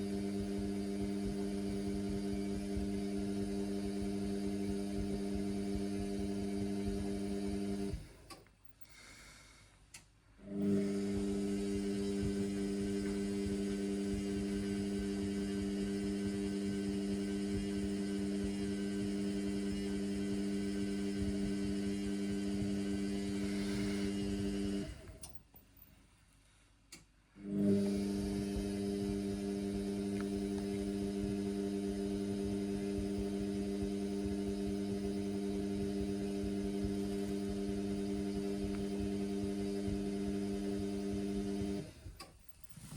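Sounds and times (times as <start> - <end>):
washing machine electrical hum: 0.0 - 9.1, 9.9 - 42.9.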